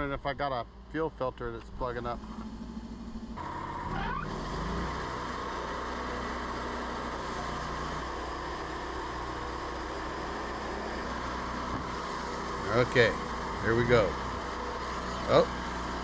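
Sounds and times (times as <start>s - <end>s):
sawmill gas engine running: 2.0s - 16.0s.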